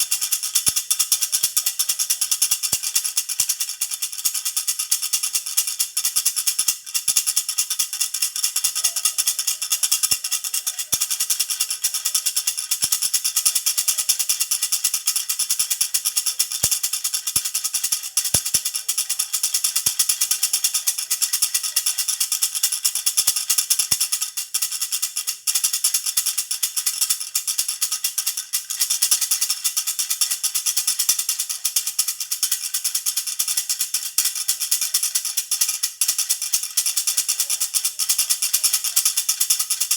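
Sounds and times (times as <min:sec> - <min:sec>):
baby rattle jingling: 0:00.0 - 0:25.4, 0:26.1 - 0:39.9.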